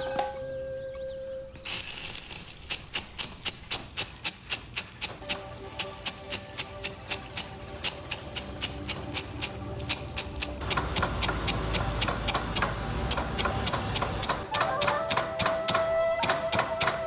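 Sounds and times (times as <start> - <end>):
wooden pestle pounding in mortar: 2.6 - 17.0.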